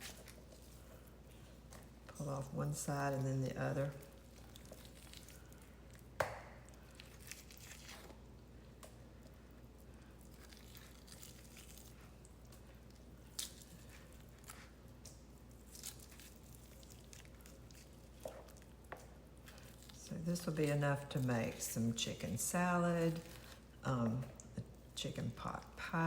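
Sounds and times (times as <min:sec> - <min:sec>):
chicken meat squishing and tearing: 0:00.0 - 0:02.0, 0:03.1 - 0:24.9.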